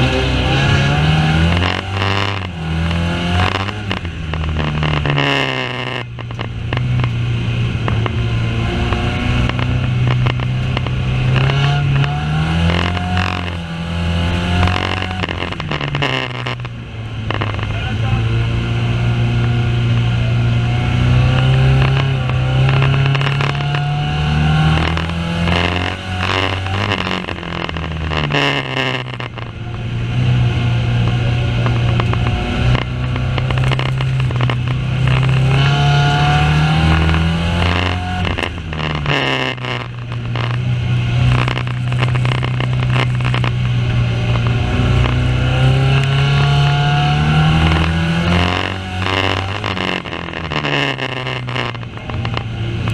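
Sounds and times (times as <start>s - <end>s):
racing car engine revving: 0.0s - 52.9s.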